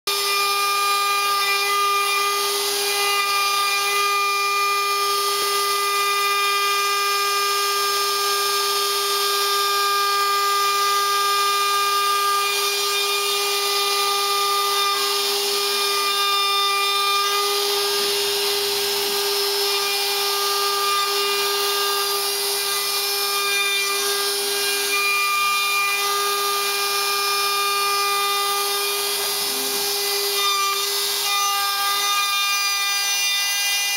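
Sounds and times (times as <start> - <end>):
router bit rasping wood: 0.1 - 33.9
router high whine: 0.1 - 33.9.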